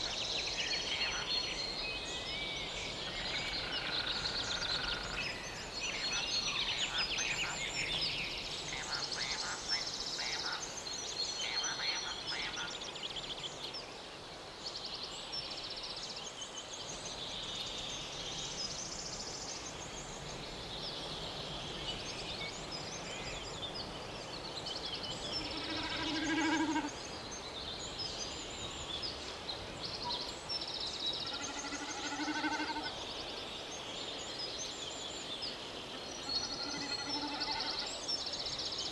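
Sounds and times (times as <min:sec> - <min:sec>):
outdoor background noise: 0:00.0 - 0:38.9.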